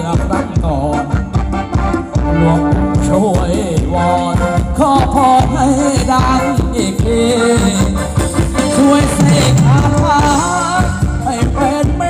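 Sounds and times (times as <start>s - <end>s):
band melody: 0.0s - 12.0s
steady drum beat: 0.0s - 12.0s.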